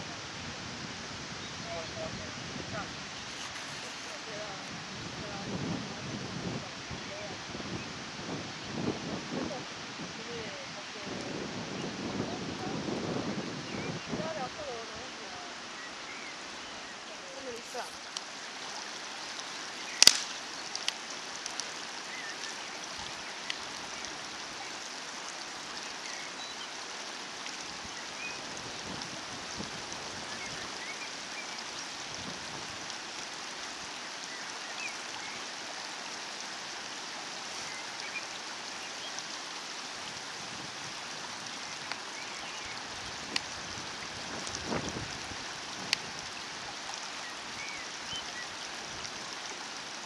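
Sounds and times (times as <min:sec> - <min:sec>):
running water rushing: 0:00.0 - 0:50.0.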